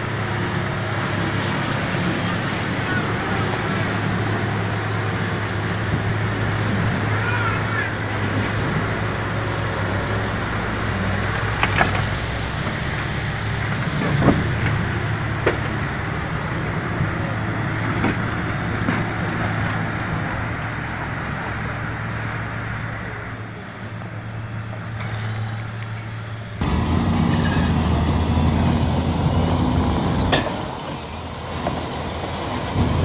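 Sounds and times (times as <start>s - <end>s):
diesel engines under load: 0.0s - 33.0s.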